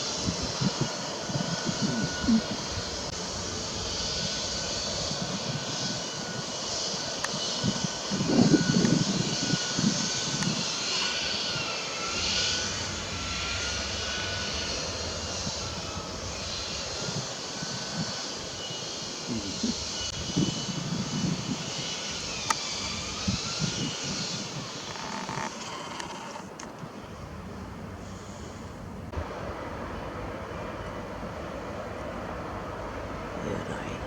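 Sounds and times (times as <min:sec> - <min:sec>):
engine drone with whine: 0:00.0 - 0:34.0.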